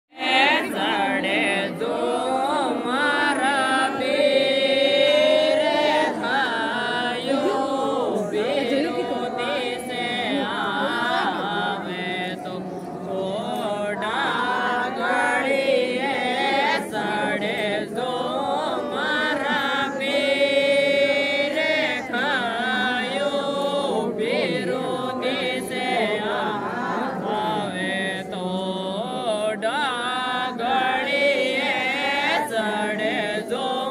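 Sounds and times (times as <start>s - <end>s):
women singing folk song in chorus: 0.1s - 33.9s.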